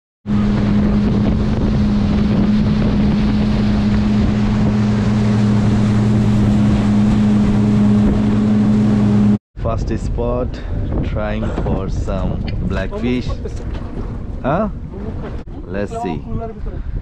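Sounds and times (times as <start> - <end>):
outboard motor running: 0.2 - 9.4, 10.6 - 17.0
churning boat wake: 0.2 - 17.0
wind on microphone: 0.2 - 17.0.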